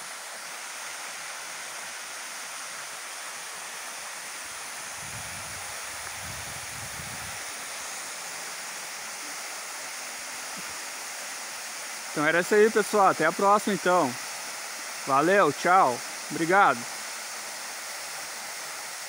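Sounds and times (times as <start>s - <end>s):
waterfall rushing over rock: 0.0s - 19.0s.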